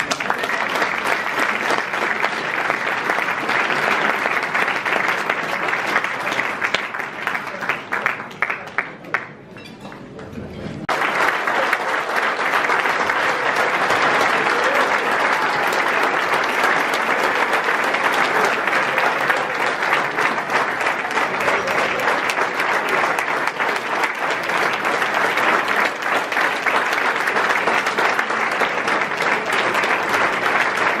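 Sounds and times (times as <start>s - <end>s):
crowd applauding: 0.0s - 9.6s, 10.8s - 31.0s.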